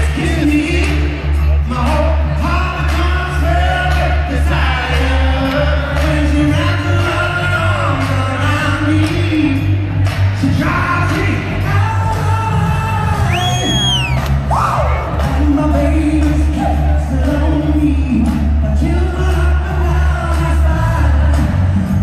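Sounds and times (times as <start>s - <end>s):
man singing: 0.0s - 13.8s, 15.2s - 22.0s
heavy bass line: 0.0s - 22.0s.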